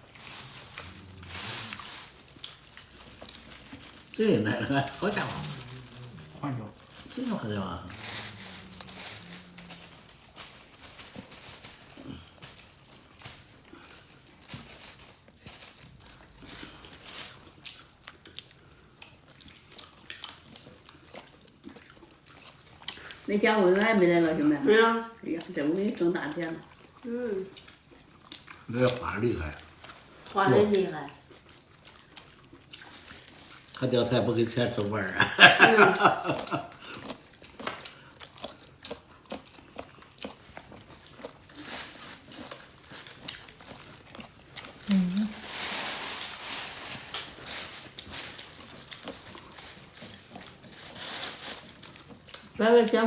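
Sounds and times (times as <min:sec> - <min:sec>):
chewing crunches: 0:00.0 - 0:24.0, 0:26.3 - 0:35.0, 0:36.3 - 0:52.6.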